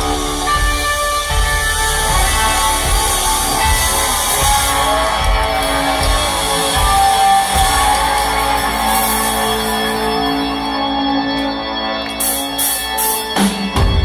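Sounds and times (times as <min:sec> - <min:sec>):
electric guitar: 0:00.0 - 0:14.0
rock band playing live: 0:00.0 - 0:14.0.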